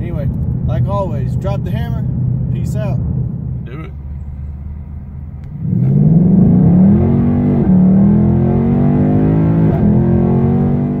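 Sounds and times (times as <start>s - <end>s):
car engine accelerating hard: 0.1s - 11.0s.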